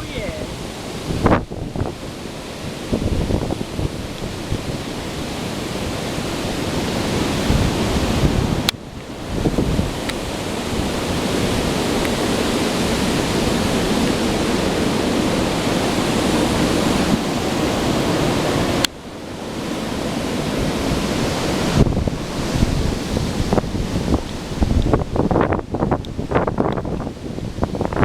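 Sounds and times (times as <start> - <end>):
strong storm wind buffeting microphone: 0.0 - 28.0.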